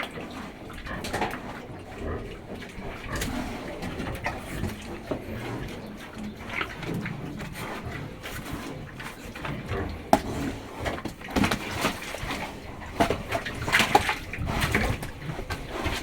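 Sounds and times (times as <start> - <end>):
pigs snuffling: 0.0 - 16.0.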